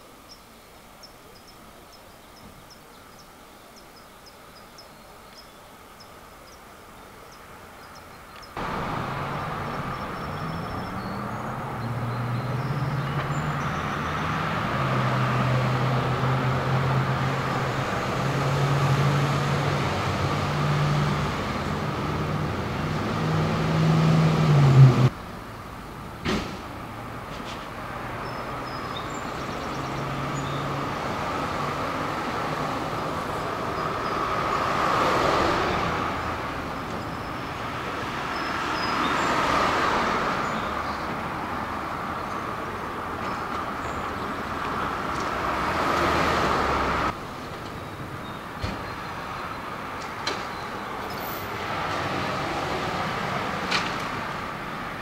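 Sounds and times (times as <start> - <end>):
traffic noise: 0.0 - 55.0.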